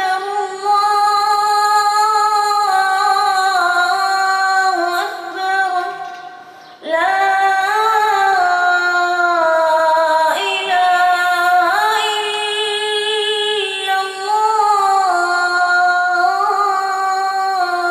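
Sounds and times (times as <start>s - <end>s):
child reciting melodically: 0.0s - 17.9s.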